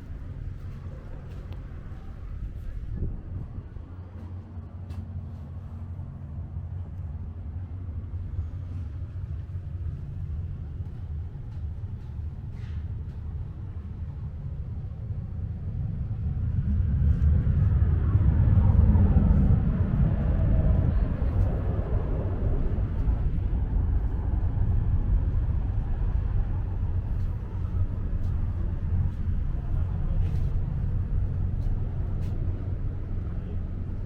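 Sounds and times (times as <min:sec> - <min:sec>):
passing vehicle rumble: 0:00.0 - 0:34.0.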